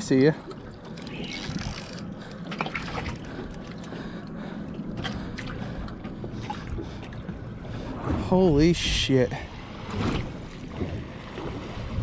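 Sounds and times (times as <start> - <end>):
boat low rumble: 0.0 - 12.0
faint hum: 0.2 - 12.0.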